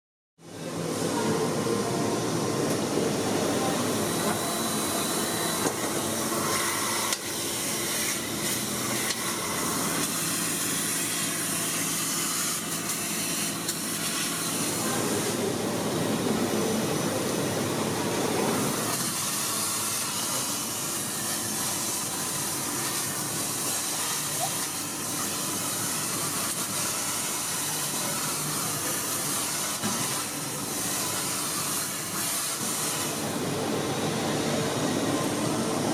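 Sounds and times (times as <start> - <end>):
wet and dry vacuum cleaner suction: 3.2 - 35.9.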